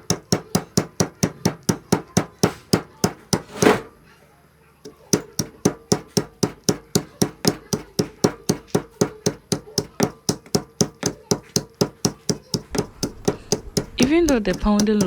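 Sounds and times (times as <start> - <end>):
pestle pounding nuts in mortar: 0.0 - 3.9, 4.9 - 15.0.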